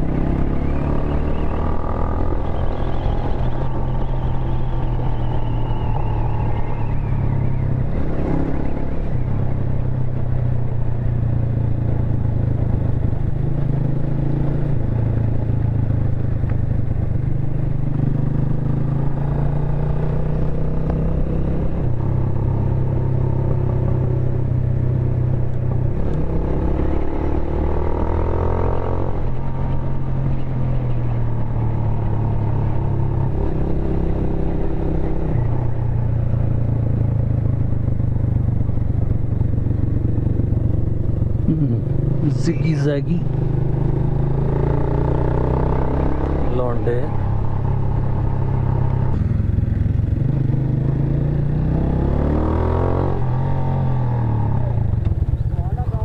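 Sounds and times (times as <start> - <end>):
motorcycle engine running: 7.4 - 56.0.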